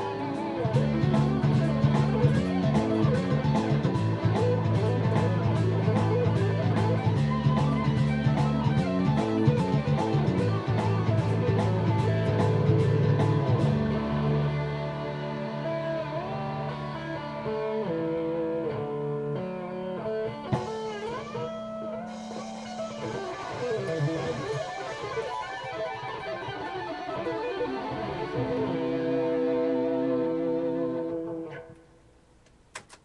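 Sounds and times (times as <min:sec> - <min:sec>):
electric guitar lead line: 0:00.0 - 0:31.9.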